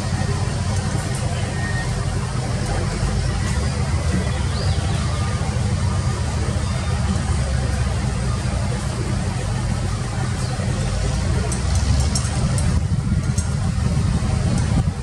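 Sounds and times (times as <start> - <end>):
excavator engine droning: 0.0 - 15.0.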